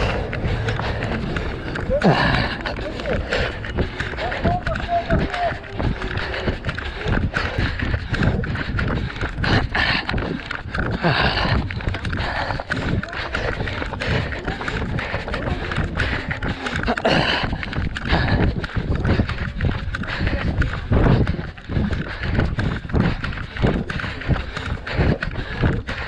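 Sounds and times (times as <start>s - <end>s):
running footsteps: 0.0s - 26.0s.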